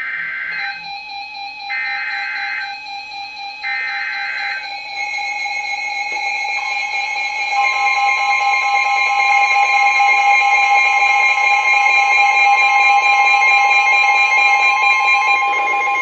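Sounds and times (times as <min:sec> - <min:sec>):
weather radio alarm tones: 0:00.0 - 0:16.0.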